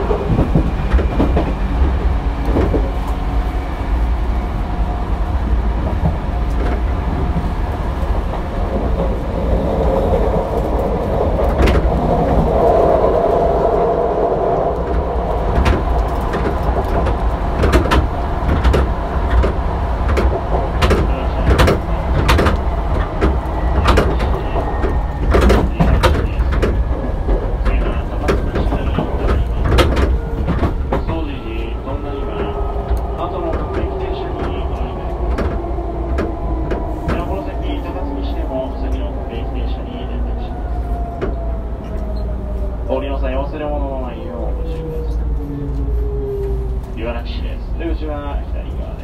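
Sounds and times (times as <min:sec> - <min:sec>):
wheels clicking over rail joints: 0:00.0 - 0:03.6, 0:04.8 - 0:12.6, 0:14.8 - 0:42.6
train wheels rumbling: 0:00.0 - 0:49.0.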